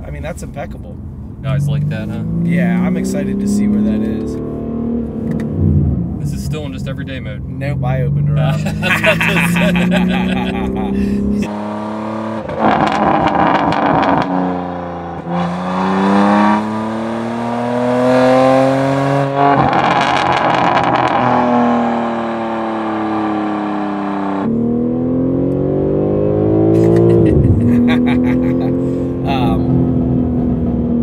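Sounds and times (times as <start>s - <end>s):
exhaust crackling: 0.0s - 25.7s, 26.3s - 31.0s
car engine accelerating: 1.3s - 31.0s.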